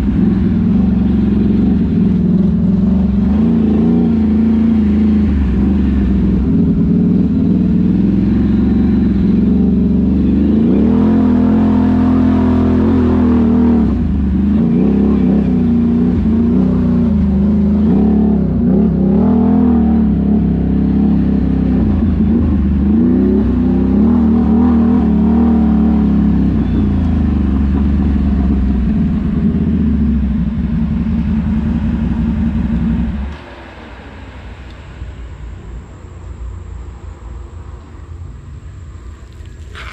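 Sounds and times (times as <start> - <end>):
atv engine revving: 0.0 - 35.2, 39.2 - 39.9.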